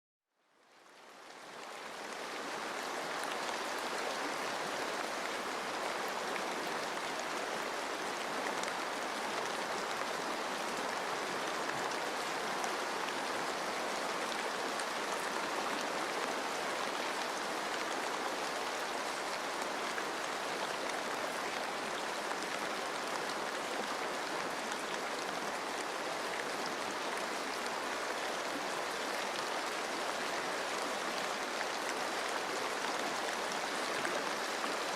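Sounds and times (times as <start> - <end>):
rain falling in forest: 0.3 - 34.9.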